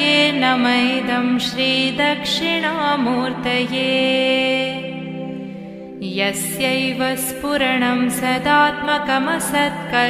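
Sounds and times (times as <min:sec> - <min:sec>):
devotional chanting: 0:00.0 - 0:10.0.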